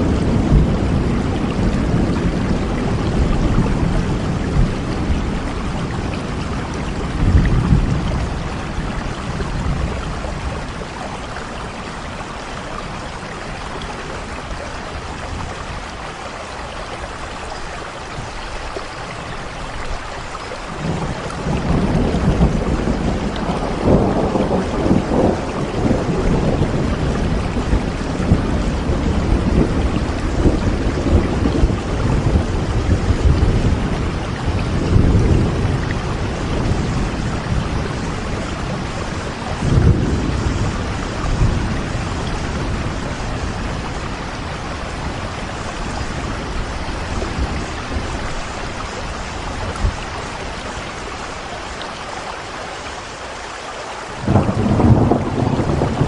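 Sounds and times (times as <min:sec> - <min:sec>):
low rolling thunder: 0:00.0 - 0:16.1, 0:20.7 - 0:51.5, 0:54.2 - 0:56.0
soft rain: 0:00.0 - 0:56.0.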